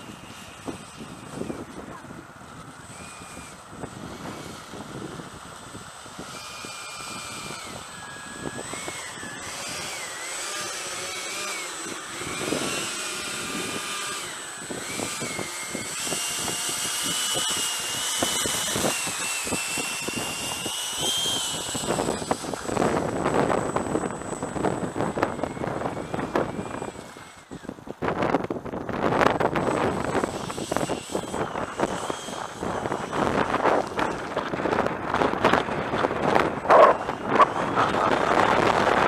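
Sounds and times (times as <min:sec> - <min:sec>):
electric ducted fan whining: 0:00.0 - 0:39.0
wind rumbling on microphone: 0:00.0 - 0:39.0.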